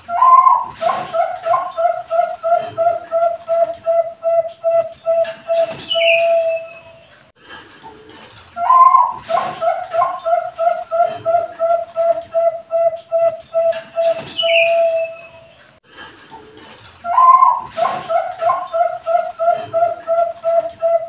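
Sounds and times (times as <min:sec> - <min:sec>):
dove cooing: 0:00.0 - 0:07.1, 0:08.6 - 0:15.6, 0:17.1 - 0:21.0.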